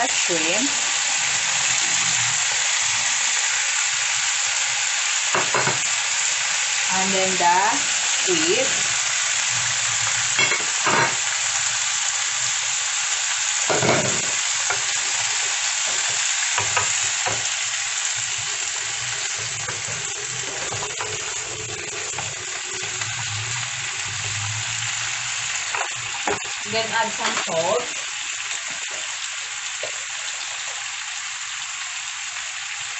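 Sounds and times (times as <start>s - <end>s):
seafood sizzling in hot oil: 0.0s - 32.9s.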